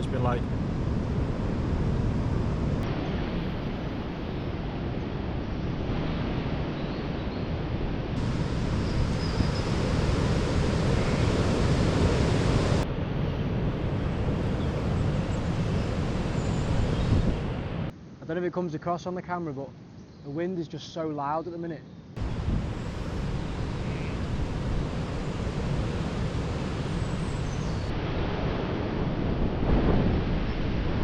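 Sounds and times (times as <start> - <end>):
storm wind roaring through trees: 0.0 - 18.2, 22.2 - 31.0.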